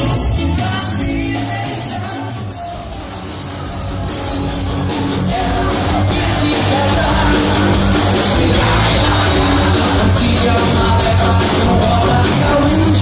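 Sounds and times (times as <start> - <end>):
band playing rock music: 0.0 - 13.0.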